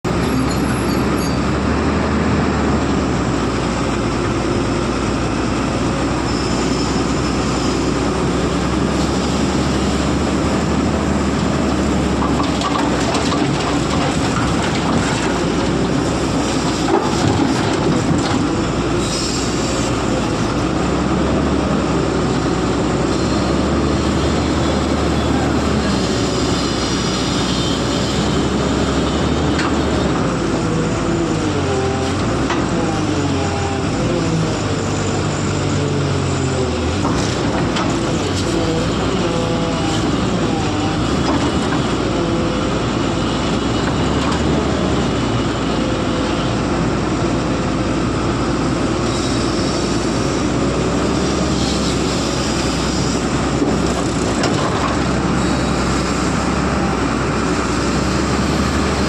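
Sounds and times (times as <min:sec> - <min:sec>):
excavator engine drone: 0:00.0 - 0:59.0.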